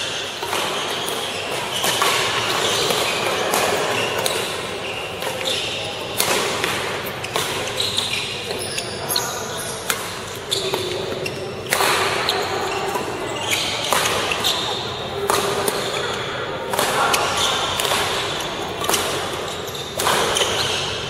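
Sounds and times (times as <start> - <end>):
sneakers squeaking on court floor: 0.0 - 21.0
rackets striking shuttlecock: 0.2 - 21.0.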